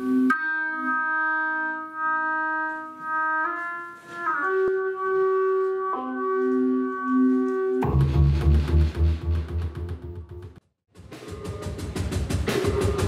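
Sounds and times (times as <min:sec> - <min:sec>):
electronic keyboard chords: 0:00.0 - 0:10.6.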